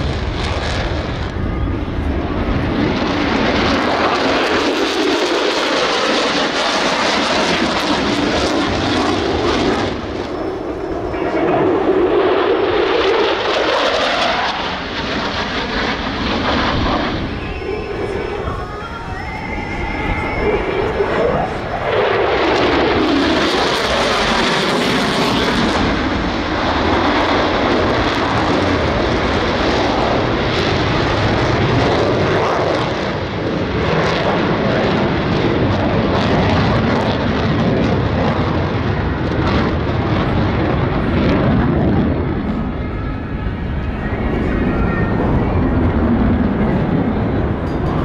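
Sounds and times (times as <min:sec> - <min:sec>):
jet fighter flying by: 0:00.0 - 0:48.0.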